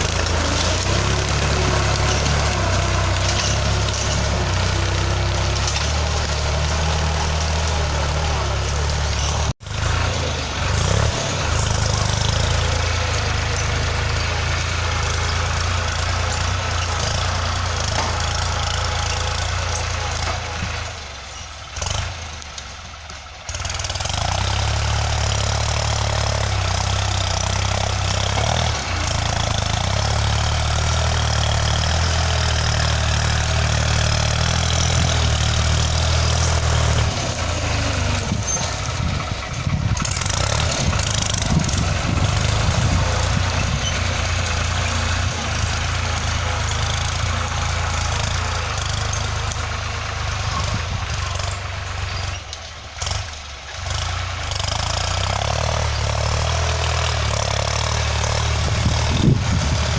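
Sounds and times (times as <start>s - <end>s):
tractor engine droning: 0.0s - 59.9s.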